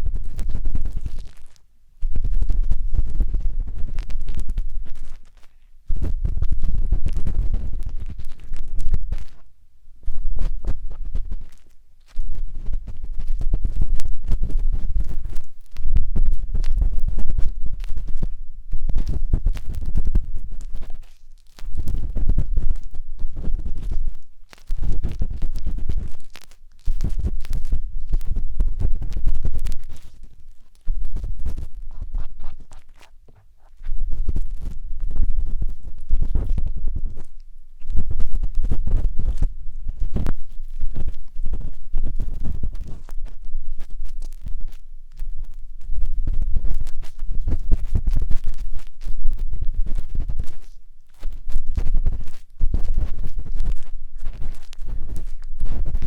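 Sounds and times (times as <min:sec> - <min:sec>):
matchstick scratching on microphone: 0:00.0 - 0:56.0.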